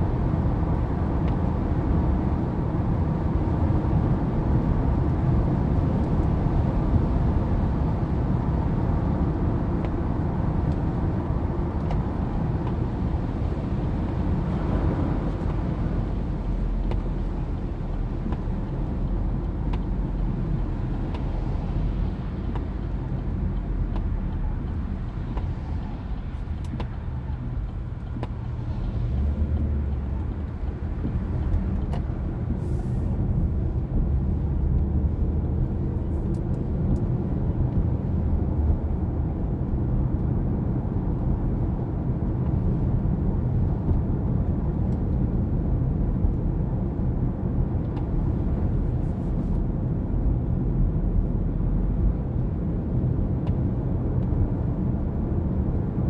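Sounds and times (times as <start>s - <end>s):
motor vehicle low rumble: 0.0s - 56.0s.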